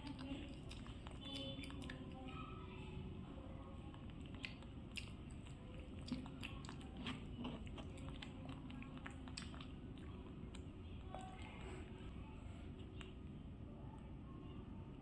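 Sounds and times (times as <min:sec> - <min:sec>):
chewing bread: 0:00.0 - 0:14.2
faint low hum: 0:00.0 - 0:15.0.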